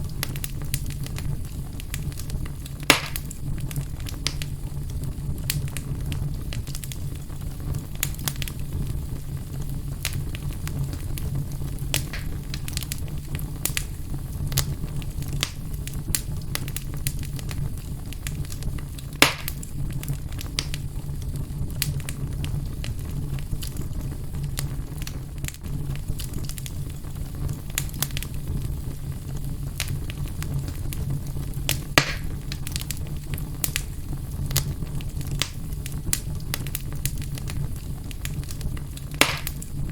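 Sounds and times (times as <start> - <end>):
fire crackling in a fireplace: 0.0 - 39.9
fire popping loudly: 0.0 - 39.9.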